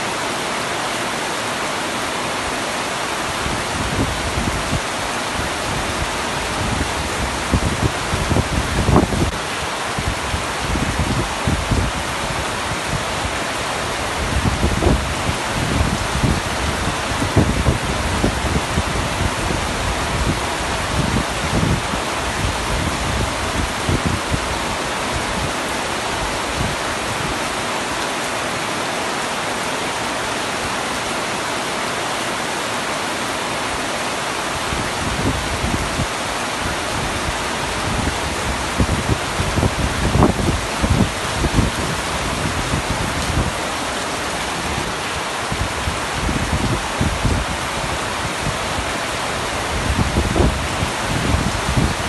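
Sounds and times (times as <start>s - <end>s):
heavy rain on tent fabric: 0.0s - 52.0s.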